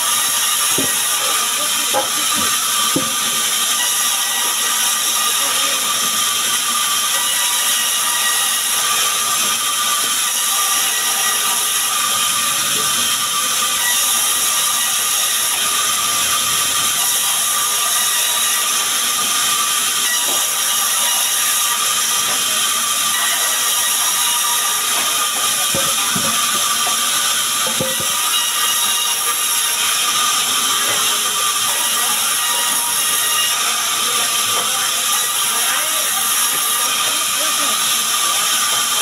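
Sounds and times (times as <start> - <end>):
band saw cutting log: 0.0 - 39.0.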